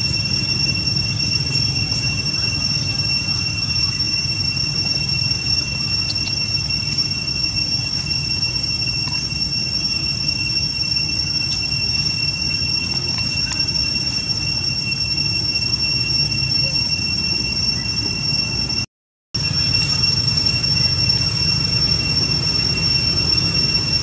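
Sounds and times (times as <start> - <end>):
insects droning: 0.0 - 18.8, 19.4 - 24.0.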